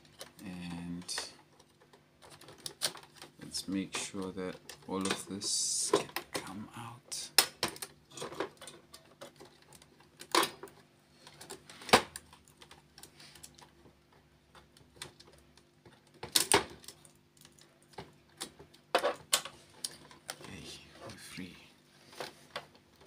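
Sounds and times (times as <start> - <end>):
plastic parts clicking and knocking: 1.0 - 20.6.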